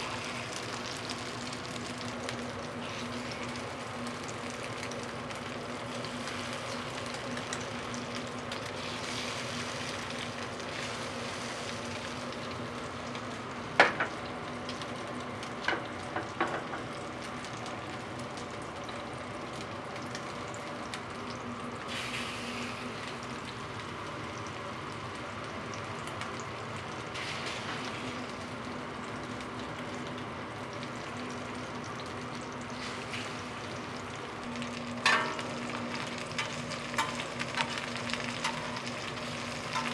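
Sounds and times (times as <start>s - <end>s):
pancakes sizzling in oil: 0.0s - 39.9s.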